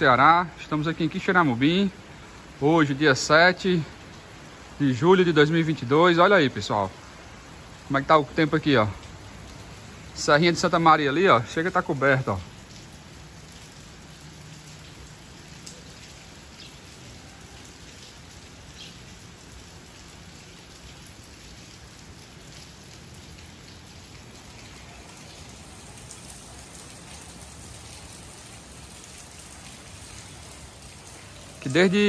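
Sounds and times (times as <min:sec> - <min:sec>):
faint ticks of raindrops: 0:00.0 - 0:32.0
light rain hissing: 0:00.0 - 0:32.0.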